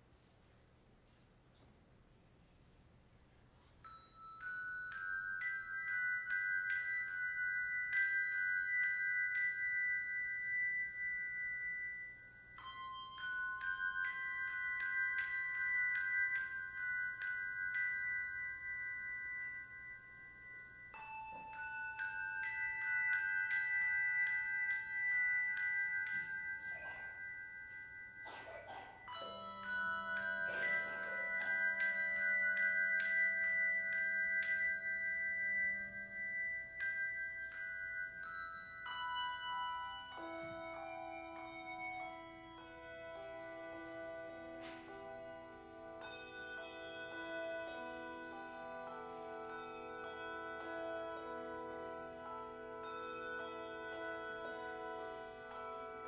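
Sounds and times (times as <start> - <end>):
handbell choir ringing: 3.6 - 56.0.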